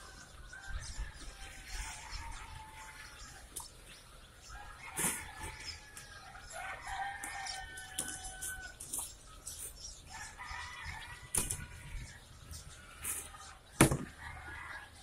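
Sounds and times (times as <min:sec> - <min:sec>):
chicks peeping: 0:00.0 - 0:13.8.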